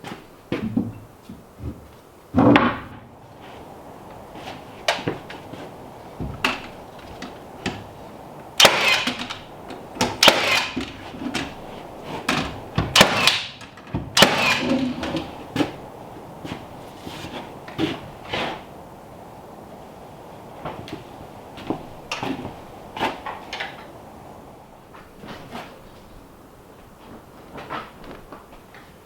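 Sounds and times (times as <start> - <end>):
wood knocking and scraping: 0.6 - 25.8.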